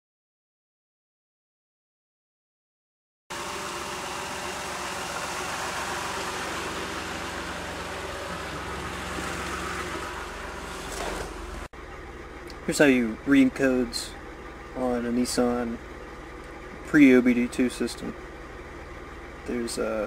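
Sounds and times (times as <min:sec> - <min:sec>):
car engine idling: 0:03.3 - 0:20.0.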